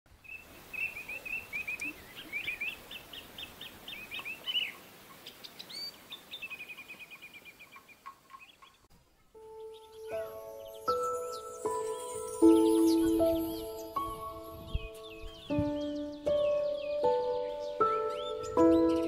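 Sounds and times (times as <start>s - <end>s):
songbirds chirping: 0.1s - 19.0s.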